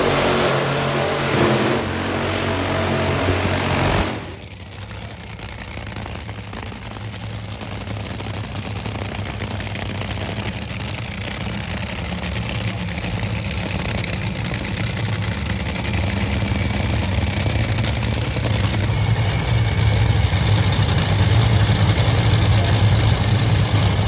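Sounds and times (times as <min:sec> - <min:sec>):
racing car engine idling: 0:00.0 - 0:24.0.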